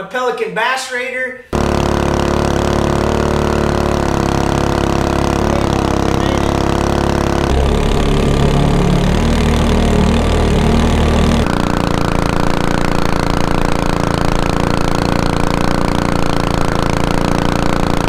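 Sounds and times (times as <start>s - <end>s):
small boat engine running: 1.6s - 18.0s.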